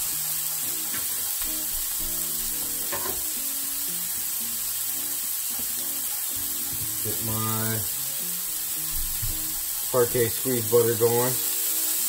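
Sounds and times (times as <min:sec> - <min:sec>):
burger patties sizzling: 0:00.0 - 0:12.0
soft background music: 0:00.0 - 0:12.0.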